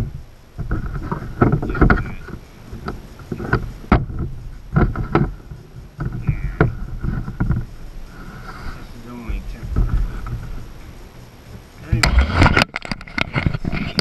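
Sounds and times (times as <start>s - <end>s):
hard plastic knocks and rattles: 0.0s - 7.8s, 9.3s - 10.7s, 11.5s - 14.0s.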